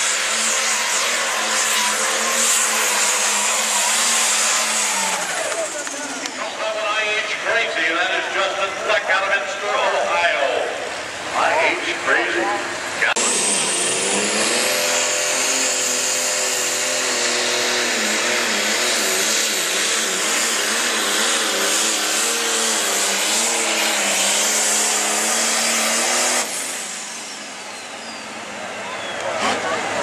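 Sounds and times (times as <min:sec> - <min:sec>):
diesel tractor engine under load: 0:00.0 - 0:30.0.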